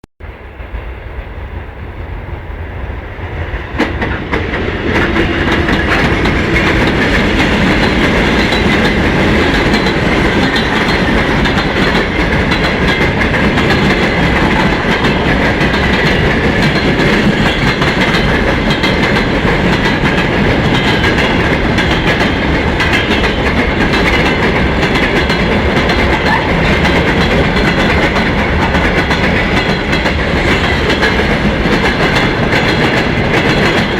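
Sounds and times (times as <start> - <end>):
freight train wheels clattering: 3.1 - 33.9.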